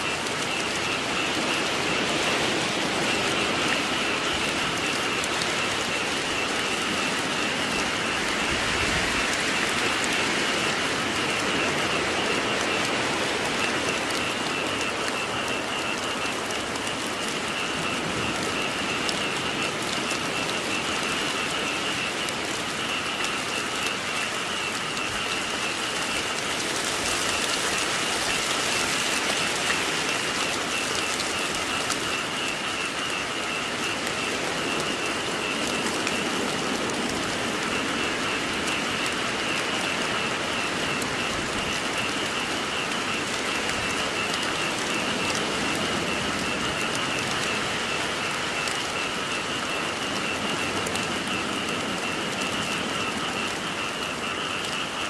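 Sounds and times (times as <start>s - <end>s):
frogs trilling: 0.0s - 55.0s
steady rainfall: 0.0s - 55.0s.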